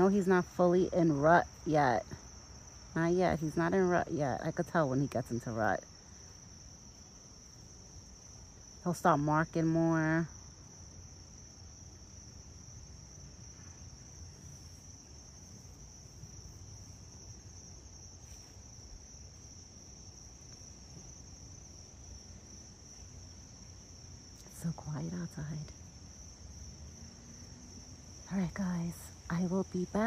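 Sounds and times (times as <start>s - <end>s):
high-pitched insect trill: 0.0s - 30.0s.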